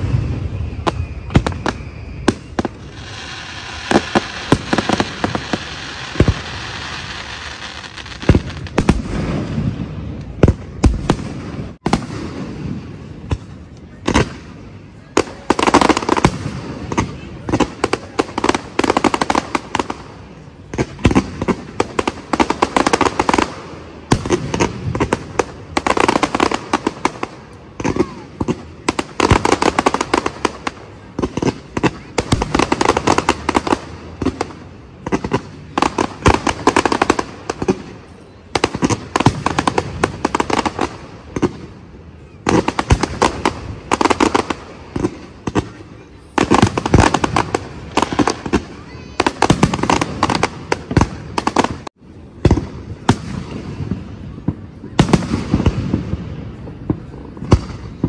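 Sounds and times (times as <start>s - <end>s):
fireworks cracks and bangs: 0.0s - 58.0s.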